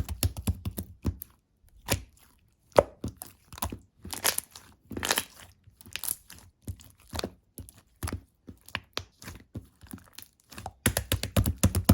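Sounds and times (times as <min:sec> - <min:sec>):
slime squishing with sticky clicks: 0:00.0 - 0:11.9.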